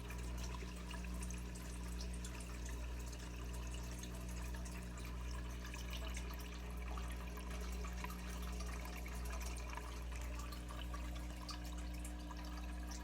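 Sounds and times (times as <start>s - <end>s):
aquarium filter water trickling: 0.0s - 13.0s.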